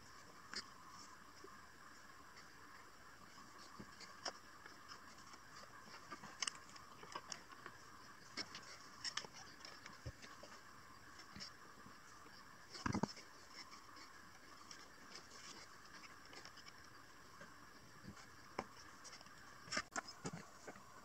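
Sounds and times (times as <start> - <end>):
steady faint hiss: 0.0 - 21.0.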